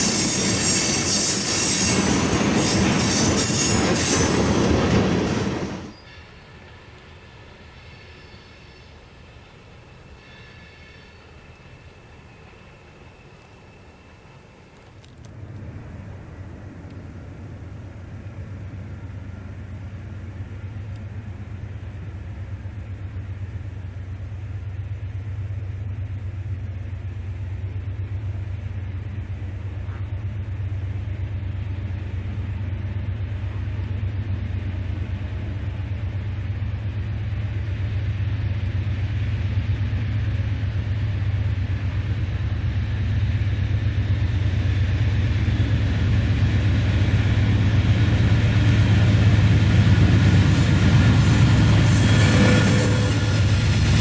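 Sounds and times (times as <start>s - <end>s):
diesel locomotive engines rumbling: 0.0s - 54.0s.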